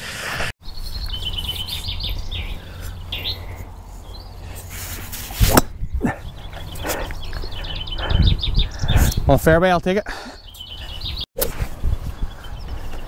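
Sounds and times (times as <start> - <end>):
birds chirping: 0.6 - 13.0
wind rumbling on microphone: 0.7 - 9.9, 11.0 - 13.0.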